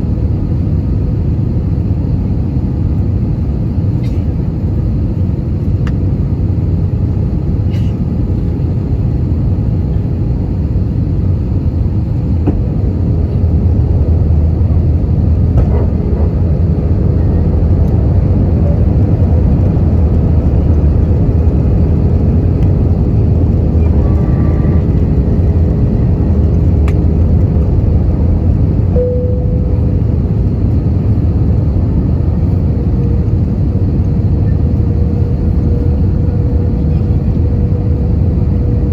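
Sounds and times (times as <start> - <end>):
aircraft cabin engine rumble: 0.0 - 38.9
steady hum: 0.0 - 38.9.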